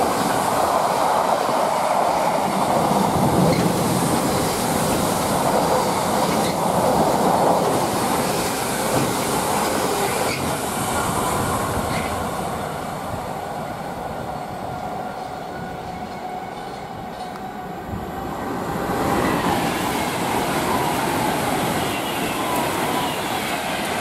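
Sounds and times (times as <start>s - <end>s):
freight wagons rumbling on rails: 0.0s - 24.0s
passing express train: 0.0s - 24.0s.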